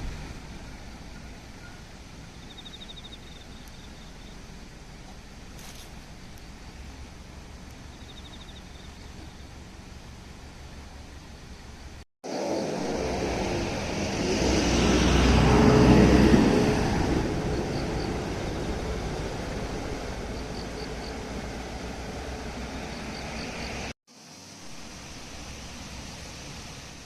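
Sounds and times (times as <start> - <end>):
road vehicle passing: 0.0 - 24.0.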